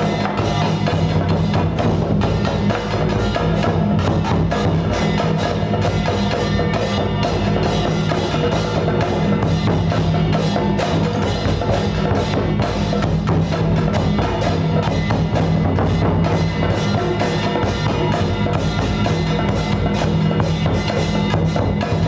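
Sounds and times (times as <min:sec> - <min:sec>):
fast percussion clicks and drums: 0:00.0 - 0:22.0.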